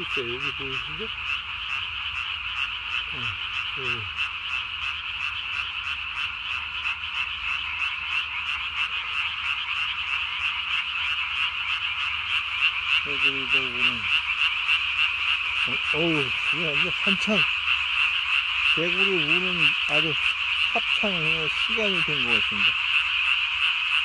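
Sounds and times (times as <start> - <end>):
tree frogs calling: 0.0 - 24.0.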